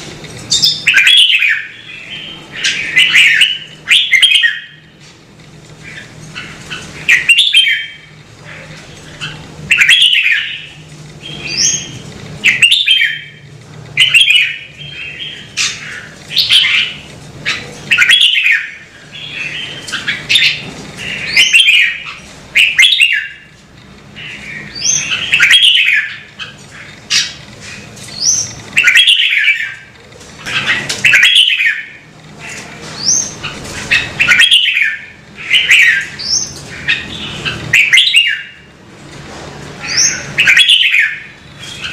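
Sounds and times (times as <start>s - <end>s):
bird singing warbled phrases: 0.5s - 5.0s, 5.8s - 38.8s, 39.8s - 41.9s.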